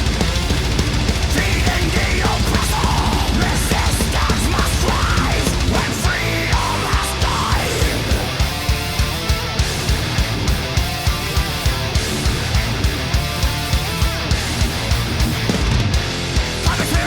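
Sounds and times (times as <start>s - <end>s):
fast drum beats: 0.0s - 17.0s
heavy metal guitar: 0.0s - 17.0s.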